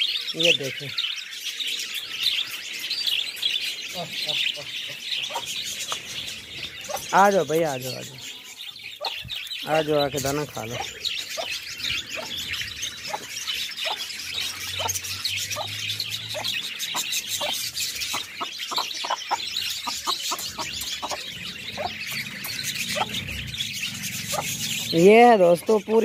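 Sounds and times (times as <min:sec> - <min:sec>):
chicks chirping and peeping: 0:00.0 - 0:26.0.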